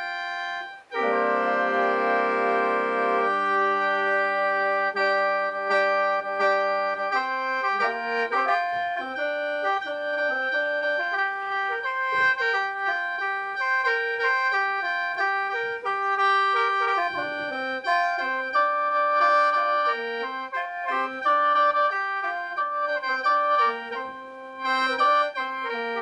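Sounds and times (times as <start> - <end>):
mouth organ chords: 0.0 - 26.0.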